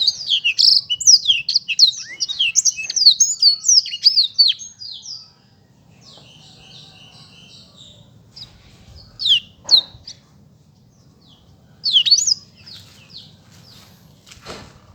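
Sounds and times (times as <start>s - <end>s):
canary singing: 0.0s - 13.9s.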